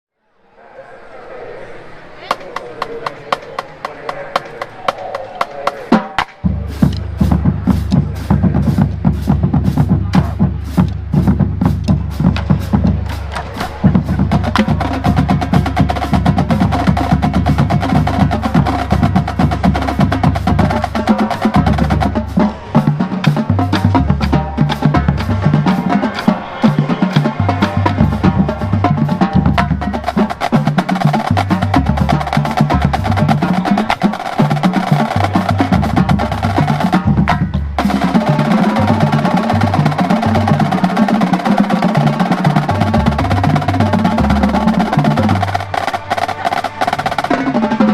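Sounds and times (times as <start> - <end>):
snare drum strokes: 2.3 - 47.9.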